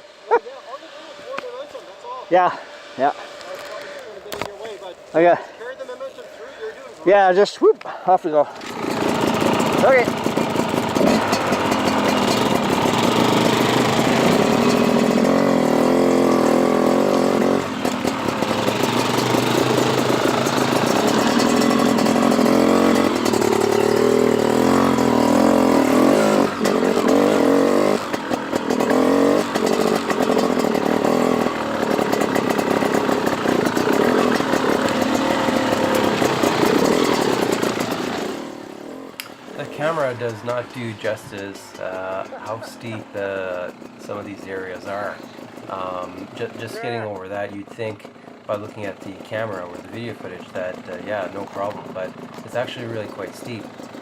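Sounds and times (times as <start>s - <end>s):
dirt bike engine revving: 7.1s - 54.0s.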